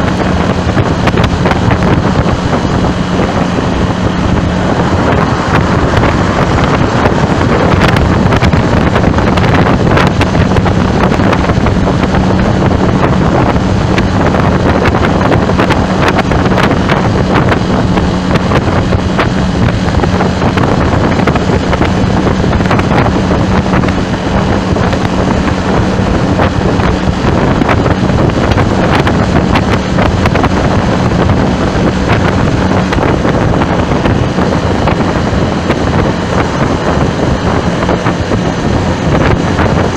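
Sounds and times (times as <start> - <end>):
low hum of vehicle: 0.0 - 39.9
wind buffeting microphone: 0.0 - 39.9.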